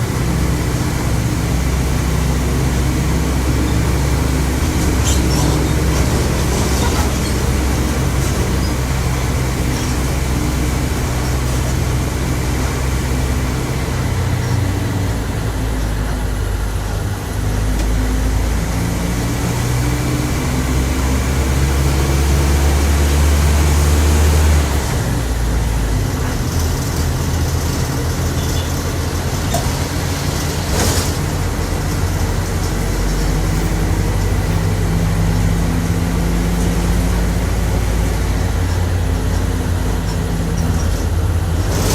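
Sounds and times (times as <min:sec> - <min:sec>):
bus diesel engine changing gears: 0:00.0 - 0:41.9.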